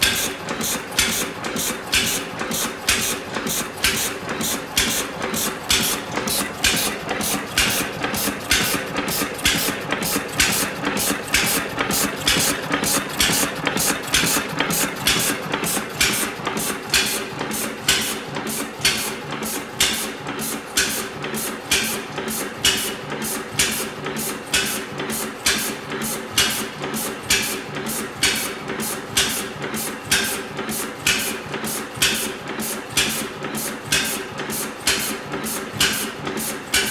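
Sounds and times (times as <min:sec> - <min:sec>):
engine clicks and beats: 0:00.0 - 0:36.9
gas engine running: 0:00.0 - 0:36.9.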